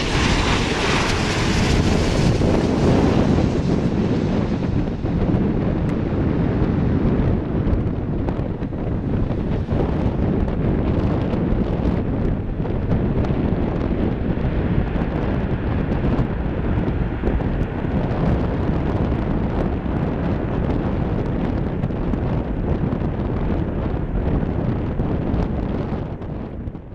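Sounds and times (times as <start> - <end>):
jet engine noise: 0.0 - 26.9
wind buffeting microphone: 0.0 - 26.9.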